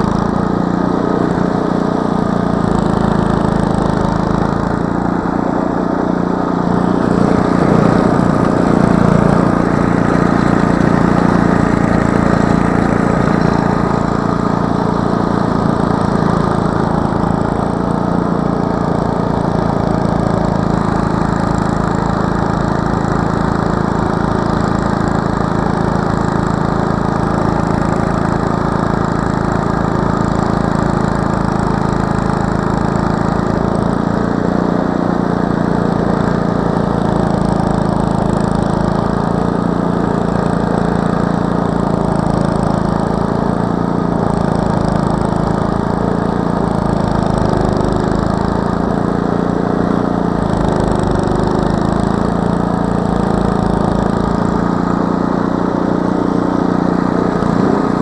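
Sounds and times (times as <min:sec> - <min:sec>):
snowblower engine running: 0:00.0 - 0:58.0
snowblower throwing snow: 0:00.0 - 0:58.0.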